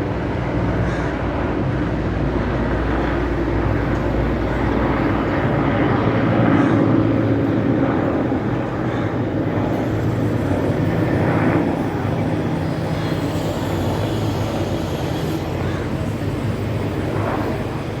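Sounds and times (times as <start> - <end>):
helicopter rotor beating: 0.0 - 18.0
turbine engine whine: 0.0 - 18.0.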